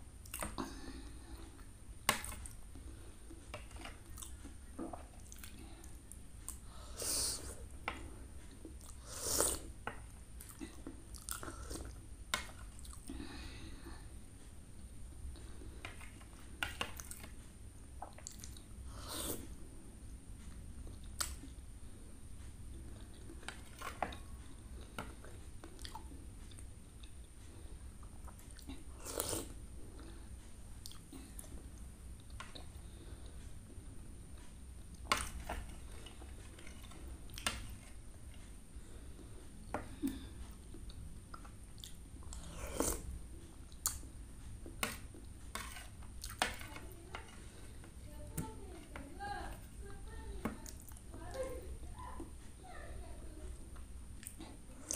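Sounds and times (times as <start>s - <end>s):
soft chewing and wet smacks: 0.2s - 14.5s, 15.3s - 21.7s, 22.4s - 49.9s, 50.6s - 52.6s, 53.4s - 54.9s.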